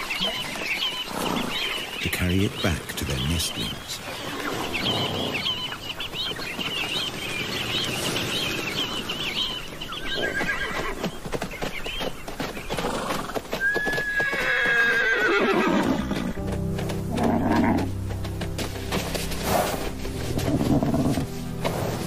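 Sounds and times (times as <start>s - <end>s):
birds chirping: 0.0s - 22.0s
hoofbeats on sand: 0.0s - 22.0s
horses neighing: 0.2s - 6.2s, 6.9s - 11.3s, 12.7s - 16.4s, 17.0s - 18.1s, 18.9s - 22.0s.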